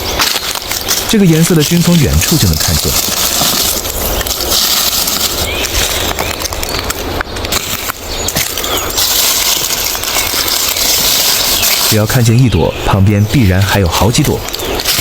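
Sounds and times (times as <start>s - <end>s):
footsteps crunching dry leaves: 0.0s - 12.8s, 14.1s - 15.0s
steady low rumble: 0.0s - 15.0s.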